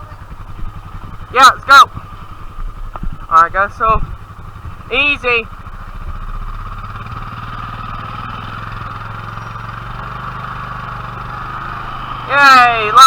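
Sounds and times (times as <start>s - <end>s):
atv engine running: 0.0s - 13.0s
tractor engine running: 0.0s - 13.0s.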